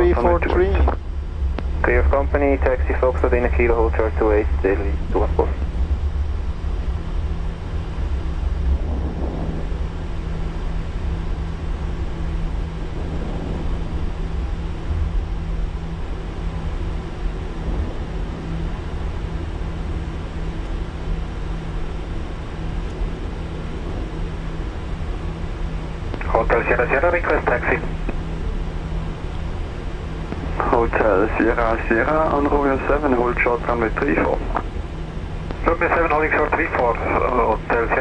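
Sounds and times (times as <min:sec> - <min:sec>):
low rumble: 0:00.0 - 0:38.0
steady hum: 0:00.0 - 0:38.0.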